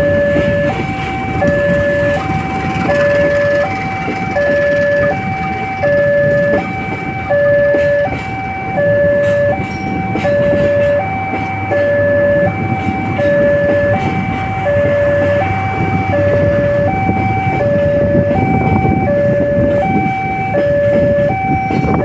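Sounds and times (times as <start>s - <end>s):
level crossing two-tone alarm: 0.0s - 22.0s
road traffic noise: 0.0s - 22.0s.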